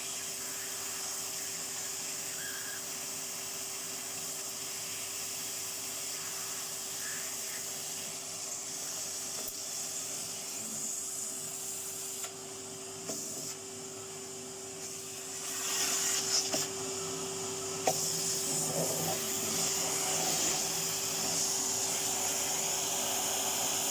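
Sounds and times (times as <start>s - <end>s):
vacuum cleaner running: 0.0s - 23.9s.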